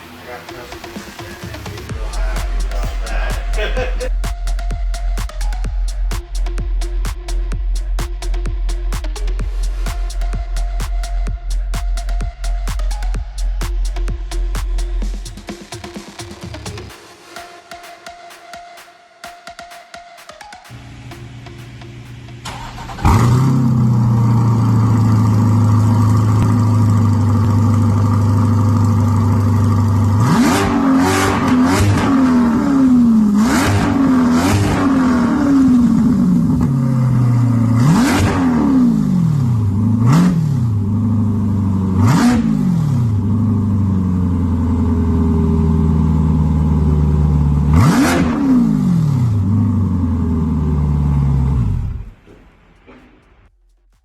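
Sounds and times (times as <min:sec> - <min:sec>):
car engine idling and revving: 0:00.8 - 0:17.0, 0:20.7 - 0:53.5.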